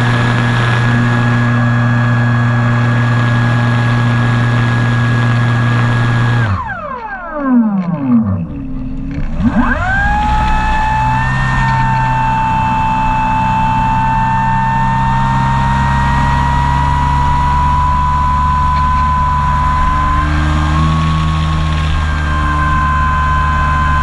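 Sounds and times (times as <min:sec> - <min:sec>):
model airplane motor whine: 0:00.0 - 0:24.0.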